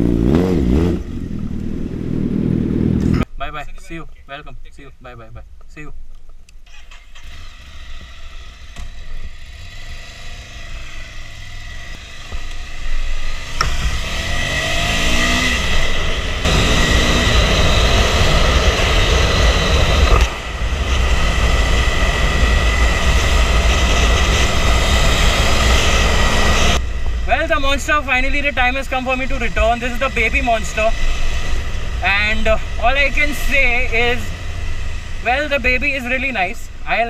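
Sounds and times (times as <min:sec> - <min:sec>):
motorcycle engine accelerating: 0:00.0 - 0:03.3, 0:07.0 - 0:36.4
rush of riding wind: 0:00.0 - 0:03.3, 0:07.2 - 0:37.0.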